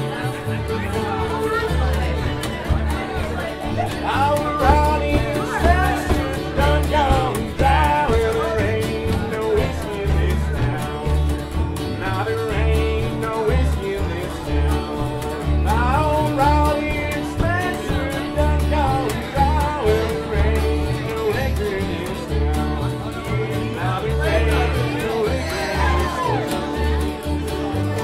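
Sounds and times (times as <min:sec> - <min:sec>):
fiddle melody: 0:00.0 - 0:28.0
plucked upright bass: 0:00.0 - 0:28.0
strummed acoustic guitar: 0:00.0 - 0:28.0.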